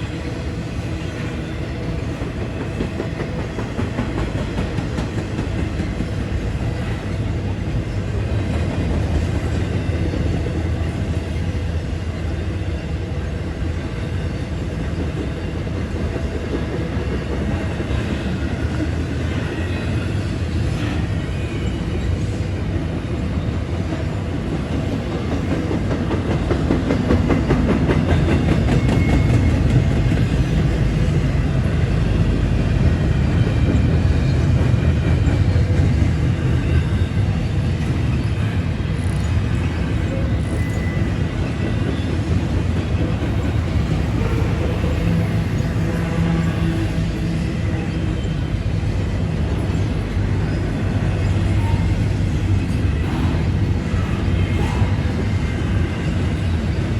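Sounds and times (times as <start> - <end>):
freight train rolling on rails: 0.0 - 56.9.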